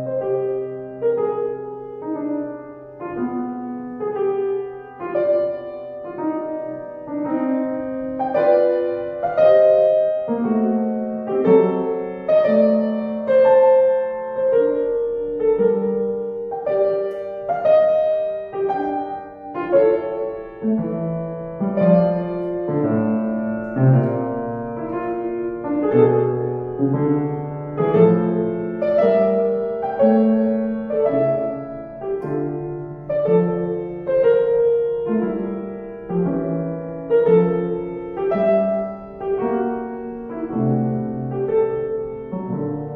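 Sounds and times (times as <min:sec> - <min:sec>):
solo classical piano piece: 0:00.0 - 0:42.9.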